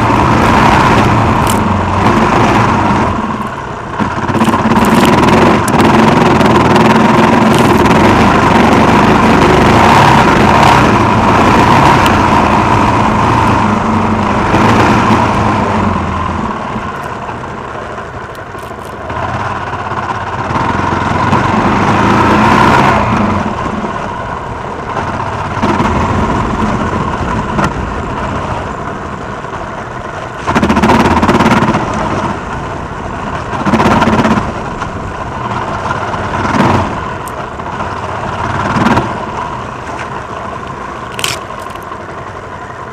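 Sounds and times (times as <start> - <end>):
motorcycle engine revving: 0.0 - 29.6, 30.4 - 42.9.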